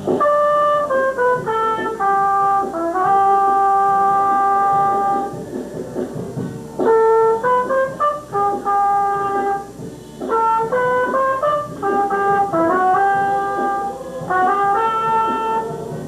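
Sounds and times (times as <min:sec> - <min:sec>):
brass instrument slow melody: 0:00.0 - 0:16.0.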